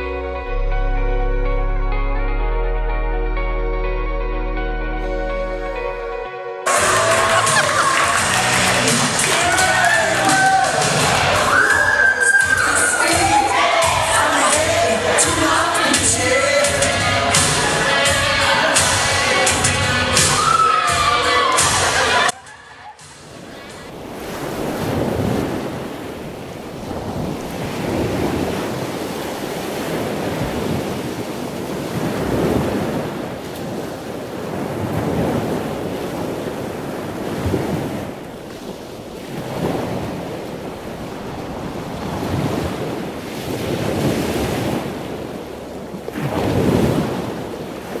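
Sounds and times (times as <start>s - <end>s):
ocean waves washing onto beach: 6.6s - 22.4s, 23.0s - 48.0s.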